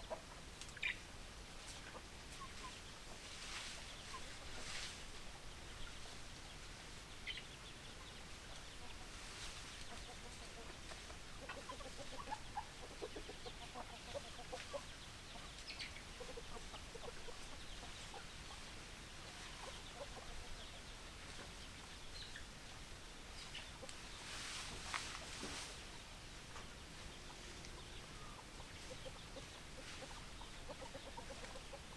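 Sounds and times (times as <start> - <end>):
background hiss: 0.0 - 31.9
hens clucking: 1.6 - 6.4, 7.2 - 31.9.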